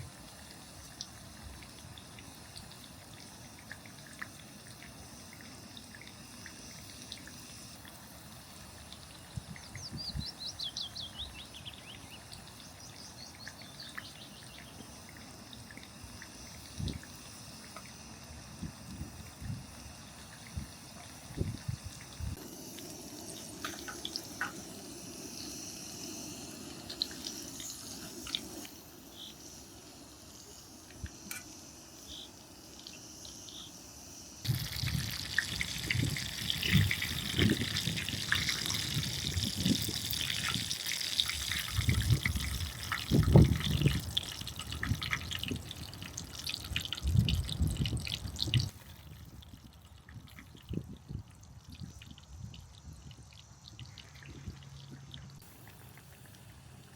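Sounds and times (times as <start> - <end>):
chicken frying in hot oil: 0.0 - 56.9.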